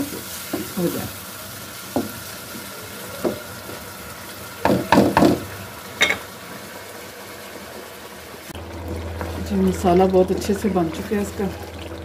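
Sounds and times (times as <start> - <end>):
gravy sizzling: 0.0 - 12.0.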